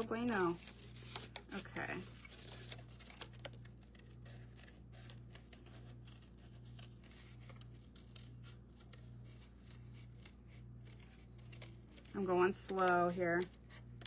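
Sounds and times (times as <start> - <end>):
scissors snipping cardboard: 0.0 - 14.0.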